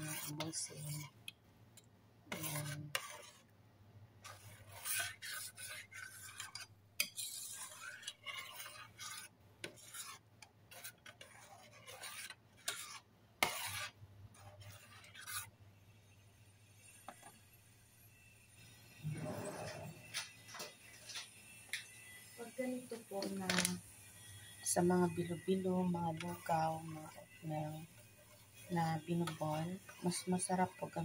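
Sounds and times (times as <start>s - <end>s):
metal spoon scraping a saucepan: 0.0s - 1.2s, 2.3s - 3.5s, 4.2s - 31.0s.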